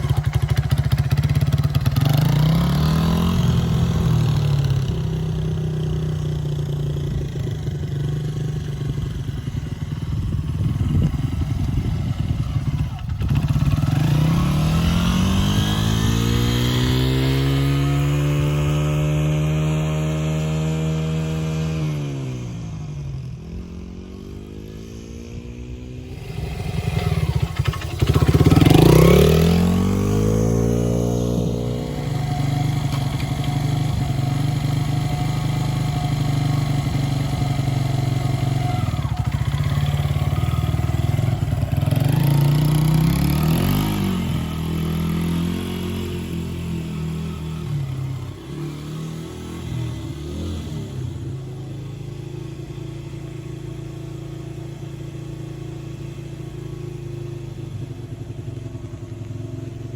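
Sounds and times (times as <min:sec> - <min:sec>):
dirt bike engine revving: 0:00.0 - 0:22.5, 0:23.7 - 0:56.3.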